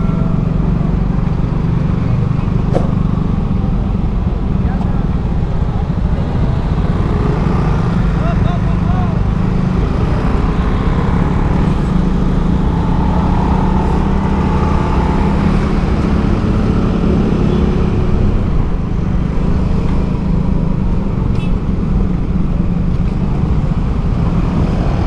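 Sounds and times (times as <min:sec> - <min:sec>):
road and wind noise: 0:00.0 - 0:25.0
street traffic: 0:00.0 - 0:25.0.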